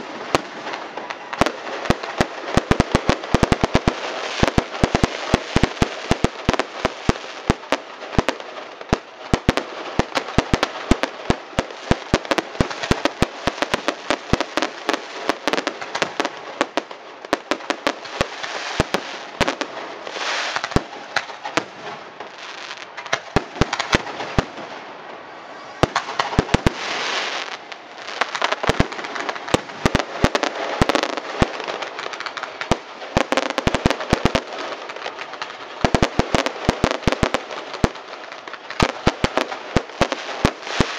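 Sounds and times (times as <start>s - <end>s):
fireworks hissing: 0.0s - 16.9s, 17.5s - 24.7s, 25.6s - 40.9s
fireworks crackling and popping: 0.0s - 40.9s.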